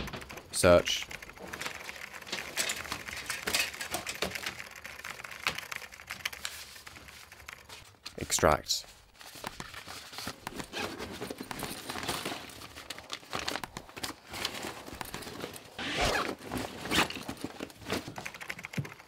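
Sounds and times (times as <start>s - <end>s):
paper and card rustling: 0.0s - 19.0s.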